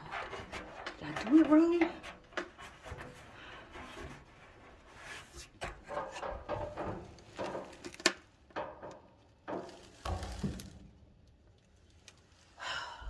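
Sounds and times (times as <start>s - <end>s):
dryer drum rubbing and knocking: 0.0s - 10.6s.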